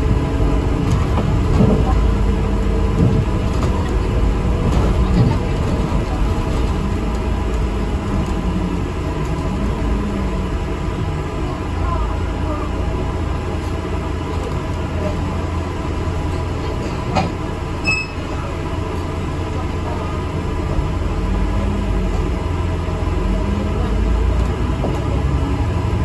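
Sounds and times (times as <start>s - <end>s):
bus engine rumble from inside: 0.0s - 26.0s.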